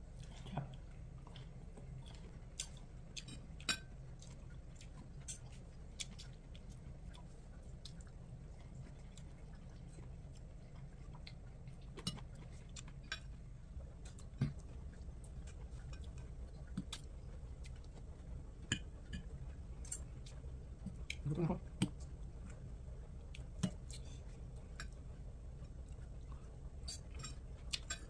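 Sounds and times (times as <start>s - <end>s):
low steady hum: 0.0s - 28.0s
quiet chewing: 0.0s - 28.0s.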